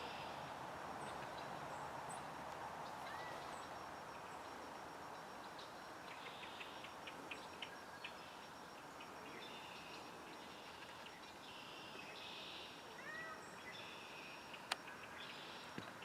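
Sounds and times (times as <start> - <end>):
small songbirds calling: 0.0 - 16.0
soft outdoor hiss: 0.0 - 16.0.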